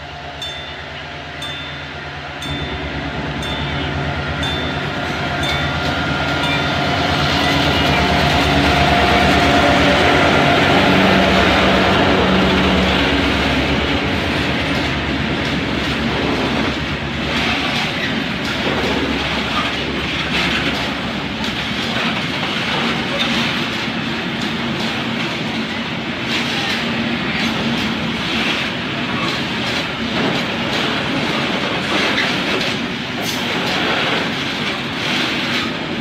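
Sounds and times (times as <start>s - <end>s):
diesel locomotive engine: 0.0s - 36.0s
train wheels clattering over rail joints: 4.4s - 36.0s.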